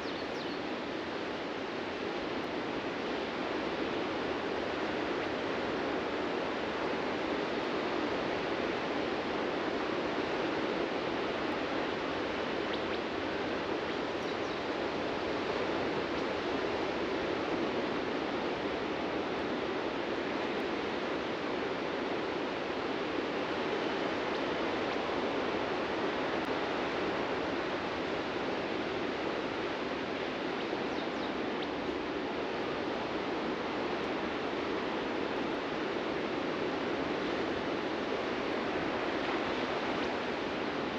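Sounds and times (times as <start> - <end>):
ocean surf washing onto beach: 0.0 - 40.9.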